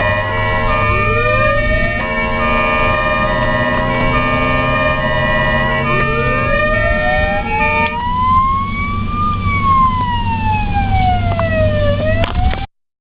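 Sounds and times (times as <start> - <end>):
siren wailing: 0.0 - 12.7
traffic and engine rumble: 0.0 - 12.7.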